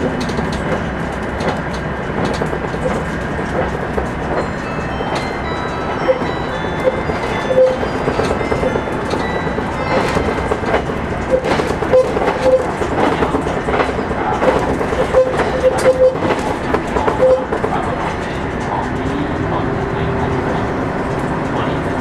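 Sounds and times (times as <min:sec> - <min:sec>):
track clicks and knocks: 0:00.0 - 0:21.8
train wheels rumbling: 0:00.0 - 0:22.0.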